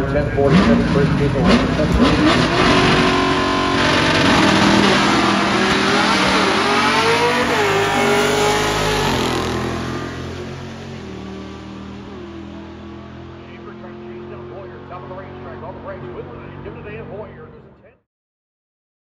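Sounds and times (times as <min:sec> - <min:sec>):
drag racing car engines: 0:00.0 - 0:18.0.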